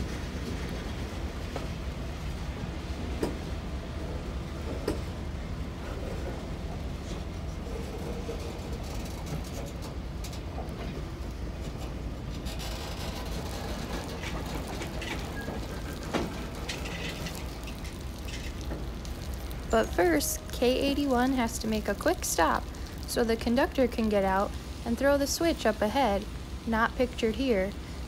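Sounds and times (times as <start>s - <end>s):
freight train wheels rumbling on rail: 0.0s - 26.6s.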